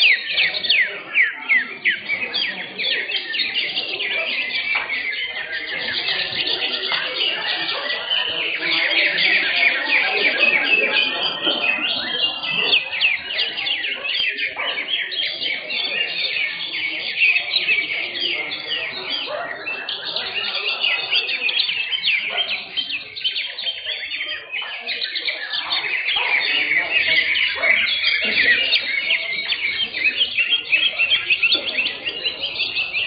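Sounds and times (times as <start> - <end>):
birds chirping and trilling: 0.0 - 33.0.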